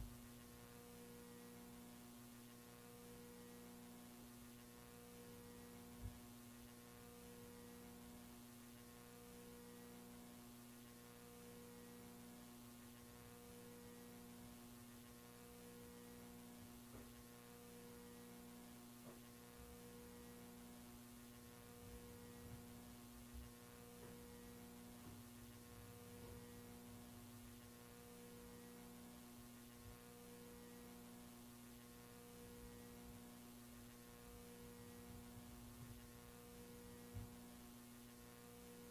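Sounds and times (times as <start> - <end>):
faint pulsing electrical hum: 0.0 - 38.9.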